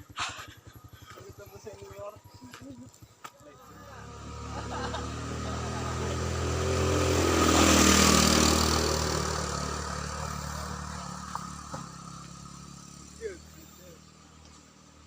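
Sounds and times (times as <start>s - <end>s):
motor vehicle passing by: 0.0s - 15.0s.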